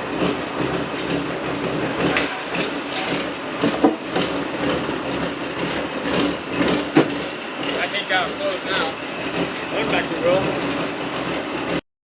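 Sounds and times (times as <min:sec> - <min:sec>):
engine running: 0:00.0 - 0:11.8.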